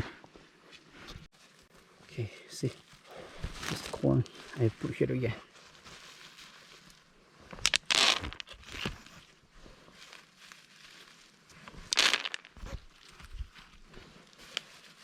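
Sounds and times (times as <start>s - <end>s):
corn husks crinkling and rustling: 1.0s - 15.0s.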